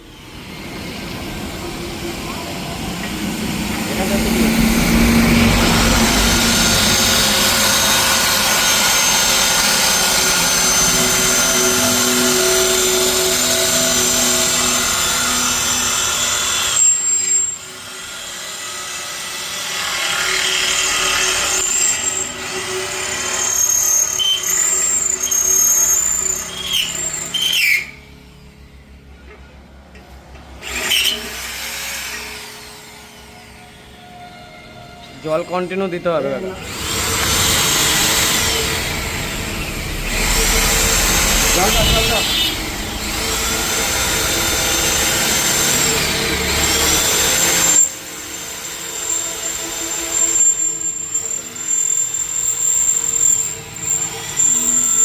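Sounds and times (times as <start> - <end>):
electric drill boring into steel: 0.0 - 29.0, 30.3 - 55.0.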